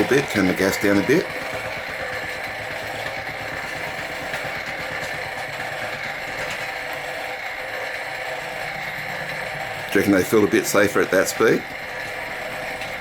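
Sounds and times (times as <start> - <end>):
stirling engine mechanical clatter: 0.0 - 13.0.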